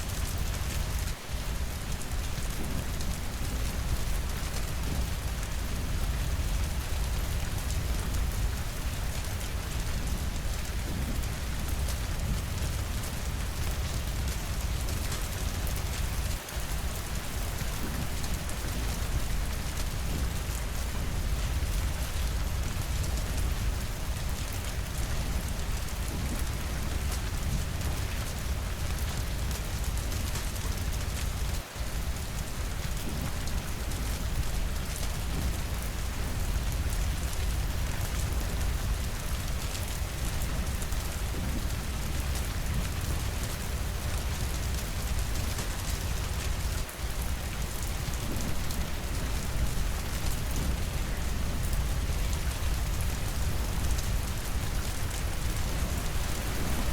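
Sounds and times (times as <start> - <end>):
heavy rainfall: 0.0 - 56.9.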